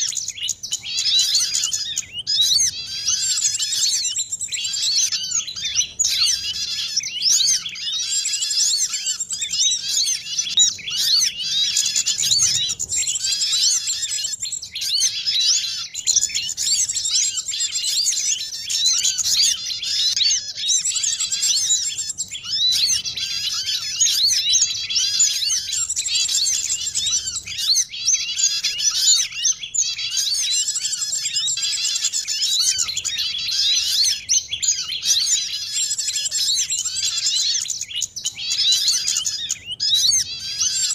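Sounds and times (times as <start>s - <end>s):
songbirds chirping chorus: 0.0s - 40.9s.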